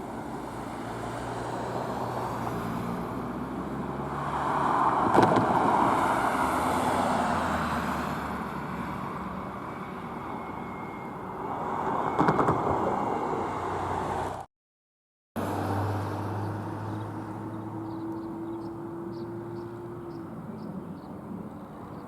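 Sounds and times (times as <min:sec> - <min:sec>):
car road and engine noise: 0:00.0 - 0:14.5, 0:15.4 - 0:22.0.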